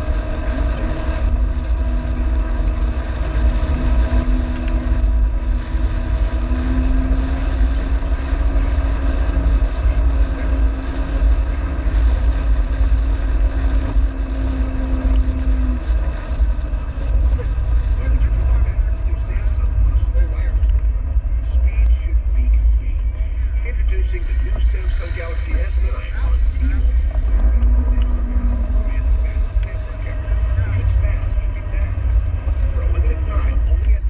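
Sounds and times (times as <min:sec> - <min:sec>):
low rumble of rough track: 0:00.0 - 0:34.0
vehicle engine droning: 0:00.0 - 0:34.0.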